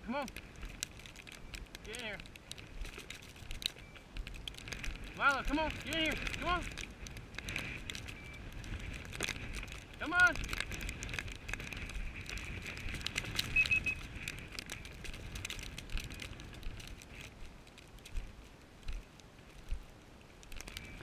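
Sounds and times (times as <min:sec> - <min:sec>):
brush rustling and crackling: 0:00.0 - 0:21.0
clicks and small knocks: 0:00.2 - 0:19.8.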